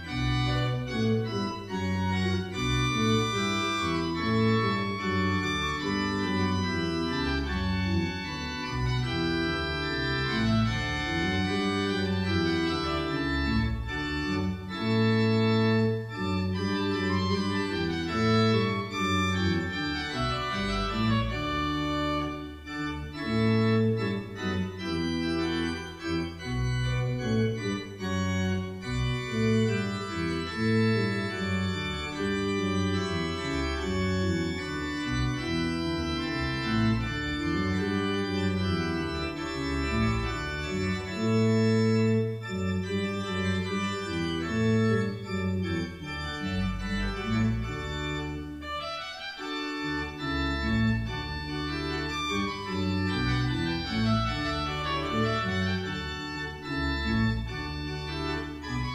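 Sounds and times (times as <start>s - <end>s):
pipe organ playing: 0.0s - 58.9s.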